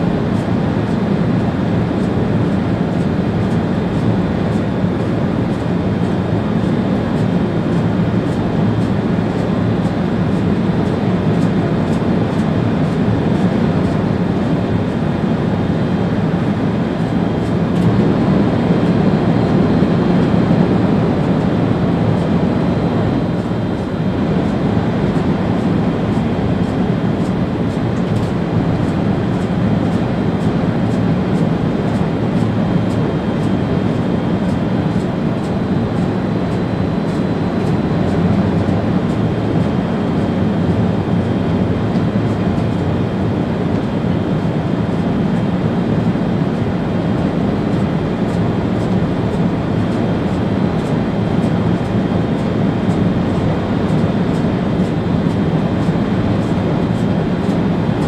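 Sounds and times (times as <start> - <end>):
train rumble at speed: 0.0 - 58.0.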